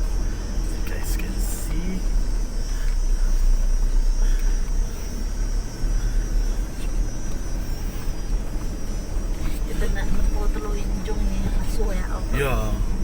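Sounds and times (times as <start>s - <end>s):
vehicle driving on dirt road: 0.0s - 13.0s.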